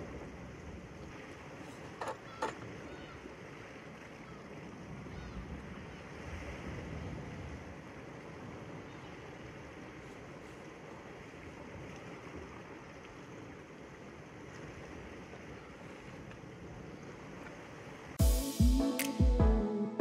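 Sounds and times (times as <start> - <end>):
wind: 0.0 - 19.2.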